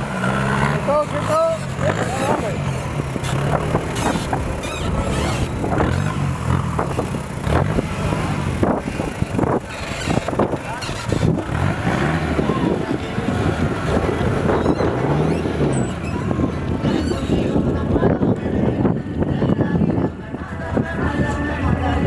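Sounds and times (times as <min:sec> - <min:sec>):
engine revving: 0:00.0 - 0:17.9.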